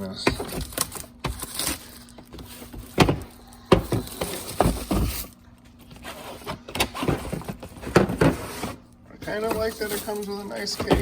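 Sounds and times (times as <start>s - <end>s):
plastic case handling noise: 0.0s - 11.0s.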